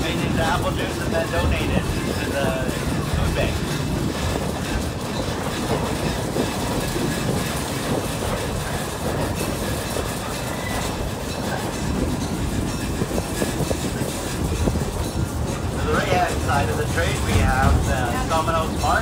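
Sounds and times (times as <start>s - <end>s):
track clicks and knocks: 0.0s - 19.0s
train wheels rumbling on rail: 0.0s - 19.0s.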